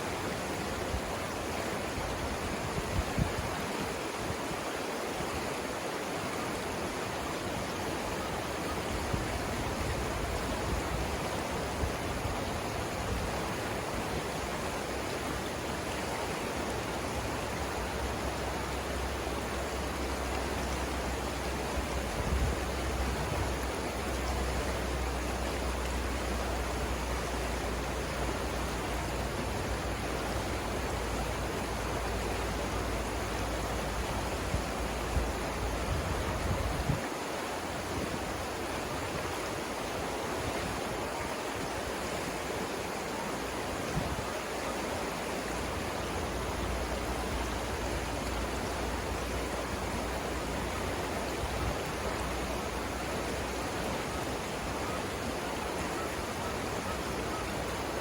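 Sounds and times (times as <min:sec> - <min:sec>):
river rapids rushing: 0:00.0 - 0:58.0.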